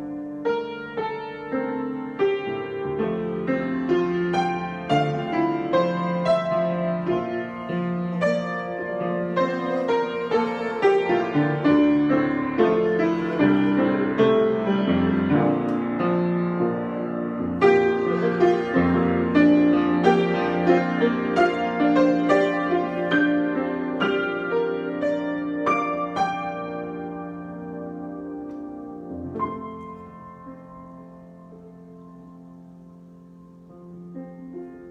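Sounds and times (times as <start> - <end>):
solo piano improvisation: 0.0 - 34.9.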